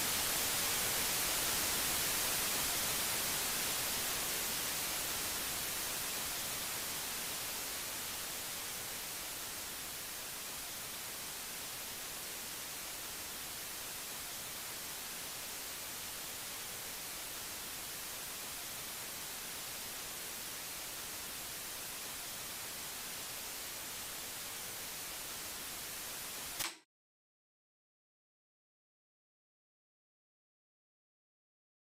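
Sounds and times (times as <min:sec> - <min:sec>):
static hiss: 0:00.0 - 0:26.7.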